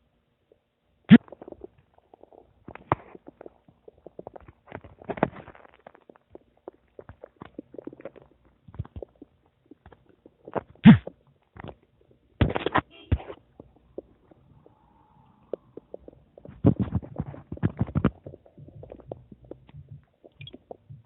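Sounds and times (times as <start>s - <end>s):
stomach gurgling: 0.5s - 21.0s.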